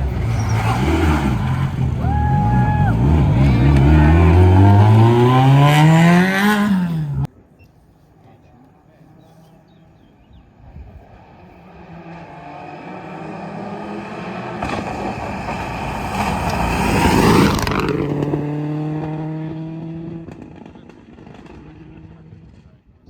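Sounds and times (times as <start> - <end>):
rally car engine passing by: 0.0 - 7.3, 10.9 - 22.6.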